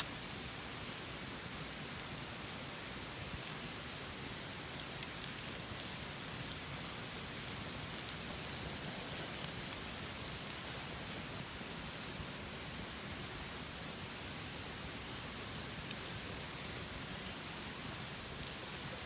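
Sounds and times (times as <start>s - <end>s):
campfire hissing: 0.0s - 19.0s
fire crackles: 0.3s - 19.0s.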